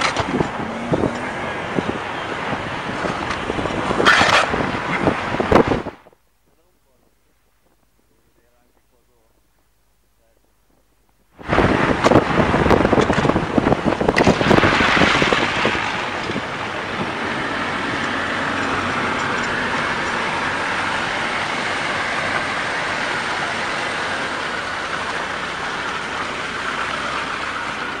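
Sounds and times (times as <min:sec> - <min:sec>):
wind buffeting microphone: 0:00.0 - 0:06.2, 0:10.7 - 0:28.0
car driving on snowy road: 0:00.0 - 0:09.6, 0:11.4 - 0:28.0.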